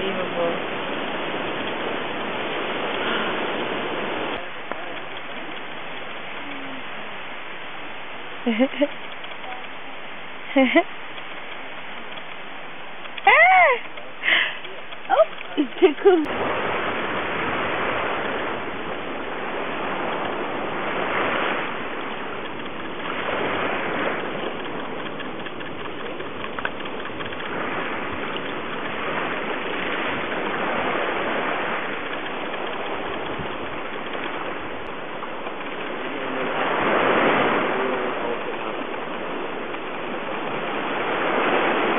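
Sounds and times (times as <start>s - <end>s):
waves breaking: 0.0s - 41.9s.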